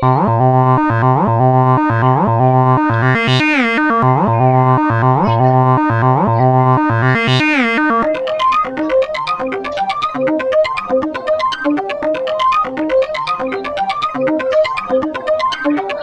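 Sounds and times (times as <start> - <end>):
plucky keyboard melody: 0.0 - 16.0
synthesizer with sliding notes: 0.0 - 16.0.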